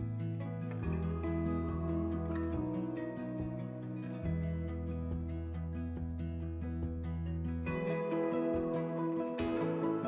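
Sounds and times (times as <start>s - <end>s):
calm instrumental music: 0.0s - 10.0s.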